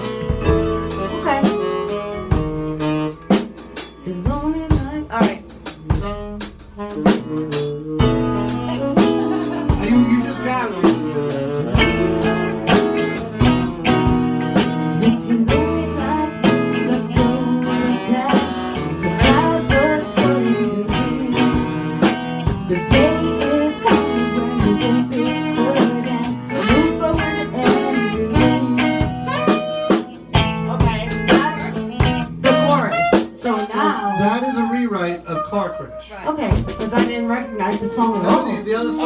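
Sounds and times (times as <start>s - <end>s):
steady drum beat: 0.0s - 34.7s, 36.3s - 39.0s
guitar: 0.0s - 39.0s.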